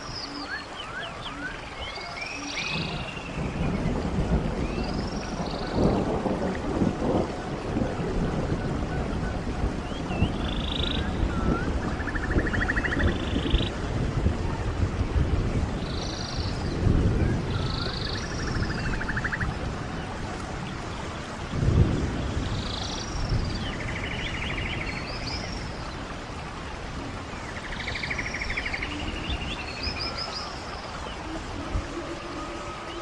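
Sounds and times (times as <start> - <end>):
songbirds singing: 0.0 - 33.0
stream running: 0.0 - 33.0.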